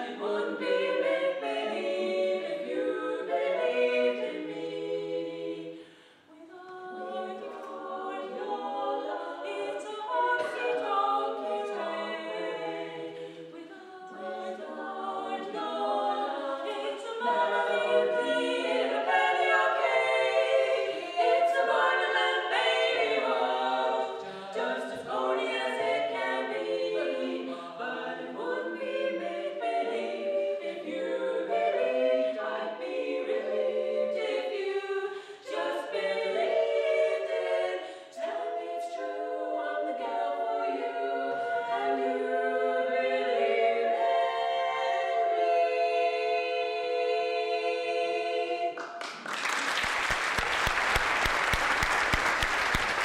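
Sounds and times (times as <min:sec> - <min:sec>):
women singing a cappella harmony: 0:00.0 - 0:48.8.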